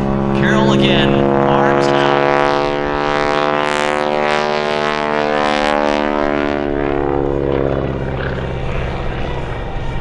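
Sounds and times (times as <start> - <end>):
propeller airplane engine droning: 0.0 - 10.0.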